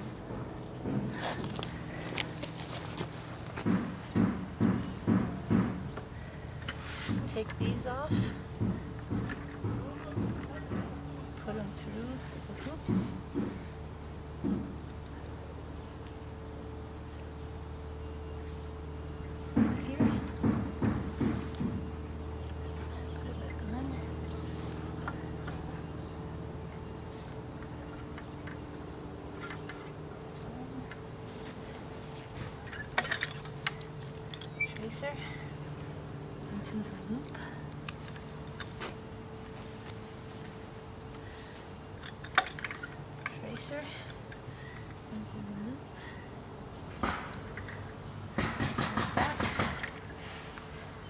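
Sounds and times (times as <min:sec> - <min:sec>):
low steady hum: 0:00.0 - 0:48.5
insect chirping: 0:00.0 - 0:51.0.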